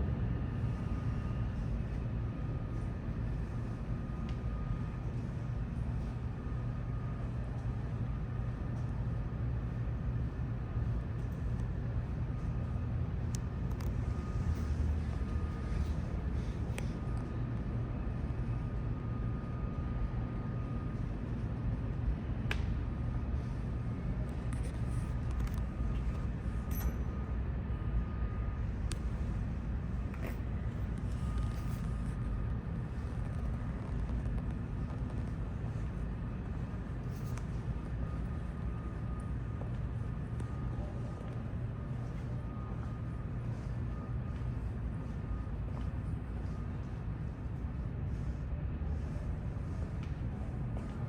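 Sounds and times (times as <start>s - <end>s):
subway train rumbling: 0.0s - 51.0s.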